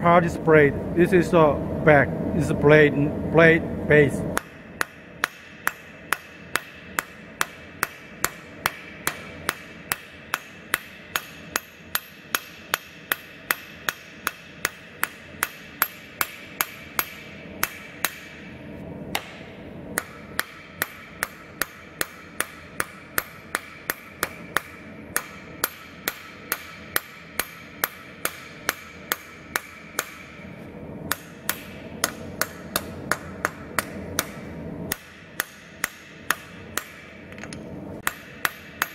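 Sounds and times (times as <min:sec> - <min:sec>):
hammer striking metal on anvil: 0:04.4 - 0:18.5, 0:19.1 - 0:30.5, 0:31.1 - 0:38.9.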